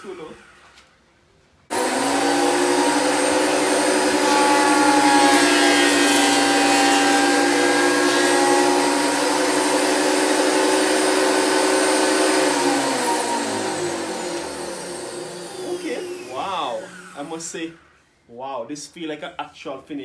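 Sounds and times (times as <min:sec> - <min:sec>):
thickness planer motor whine: 0:01.7 - 0:17.9.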